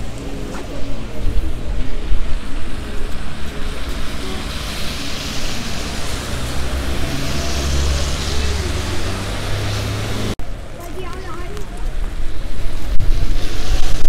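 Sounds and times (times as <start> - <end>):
car passing on wet road: 0.0 - 14.0
wind rumble on microphone: 0.0 - 14.0.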